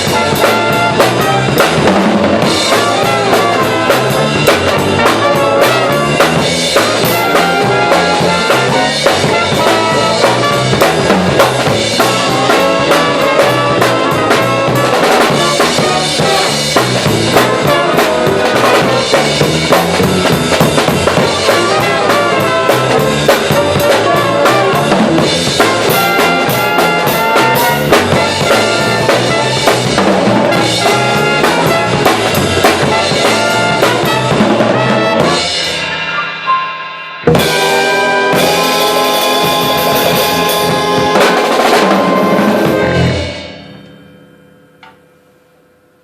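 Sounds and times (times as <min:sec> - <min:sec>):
jazz big band playing: 0:00.0 - 0:43.8
full-band hit: 0:00.0 - 0:45.0.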